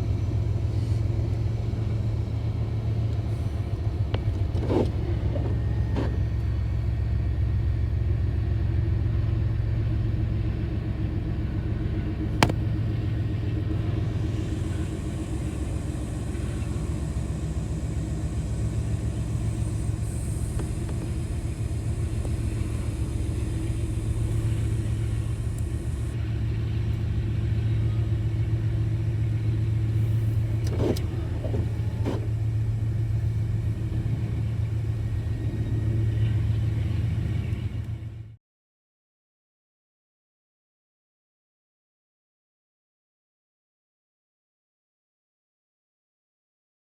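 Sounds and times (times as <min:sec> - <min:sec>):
motor vehicle rumbling: 0:00.0 - 0:38.4.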